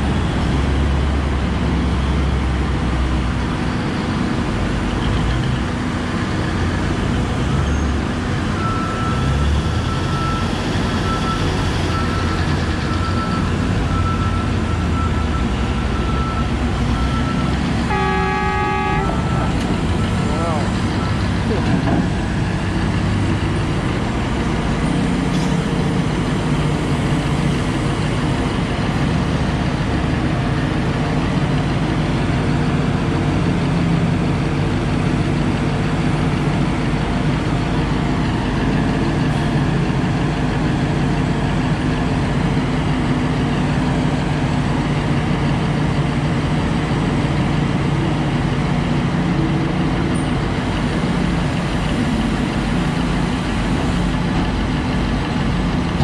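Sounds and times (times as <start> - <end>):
heavy engines droning: 0.0 - 56.0.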